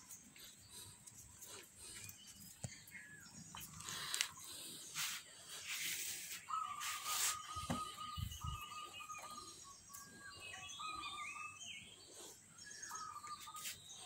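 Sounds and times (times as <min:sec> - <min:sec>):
high bird chirps: 0:01.9 - 0:14.0.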